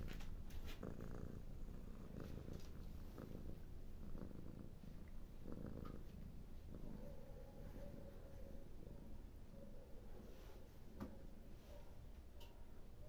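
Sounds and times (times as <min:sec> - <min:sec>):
cat purring: 0:00.0 - 0:10.6.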